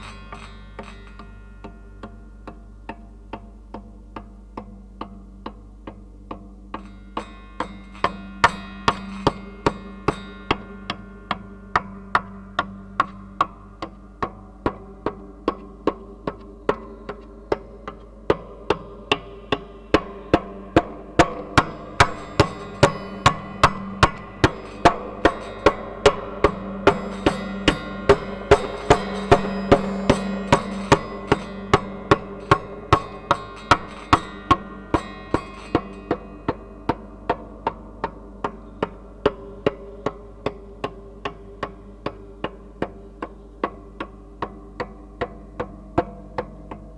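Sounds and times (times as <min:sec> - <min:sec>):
sustained humming tone: 0:00.0 - 0:46.9.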